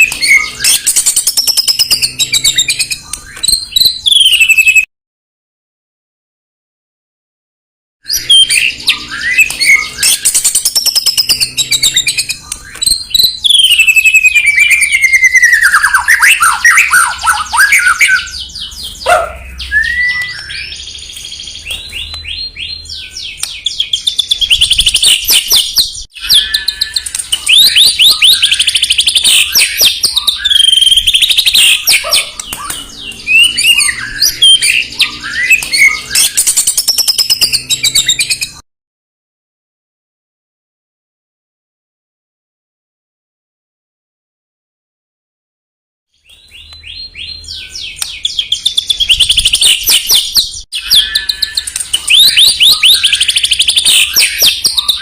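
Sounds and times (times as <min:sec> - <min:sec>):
songbird singing whistled phrases: 0:00.0 - 0:04.9, 0:08.1 - 0:38.6, 0:46.2 - 0:55.0.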